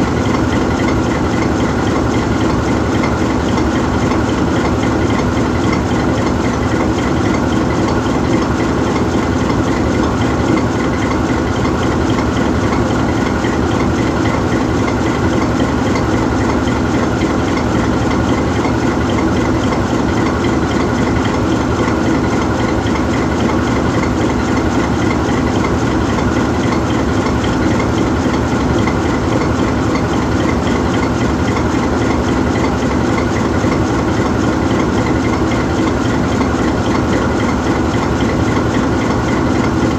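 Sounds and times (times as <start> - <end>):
locomotive diesel engine idling: 0.0 - 39.9.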